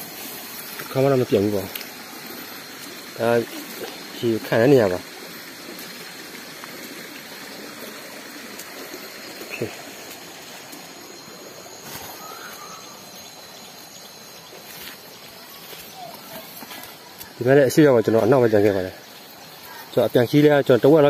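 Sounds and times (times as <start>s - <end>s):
trickle of flowing water: 0.0s - 21.0s.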